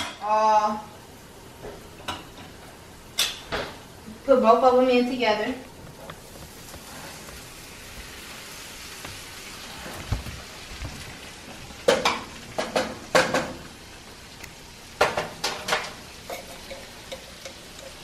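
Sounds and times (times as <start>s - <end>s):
food sizzling in a skillet: 0.0s - 18.0s.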